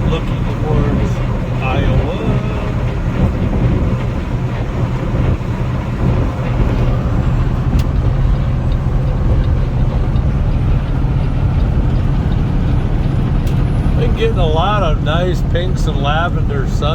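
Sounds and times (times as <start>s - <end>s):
diesel truck engine droning: 0.0s - 16.9s
tyre and road noise: 0.0s - 16.9s.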